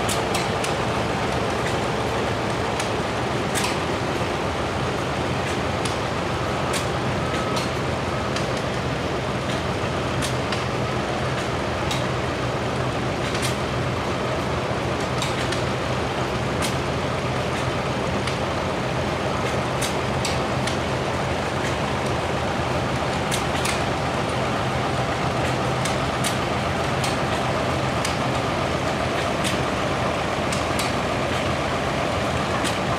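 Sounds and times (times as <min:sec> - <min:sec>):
tractor engines droning: 0:00.0 - 0:32.9.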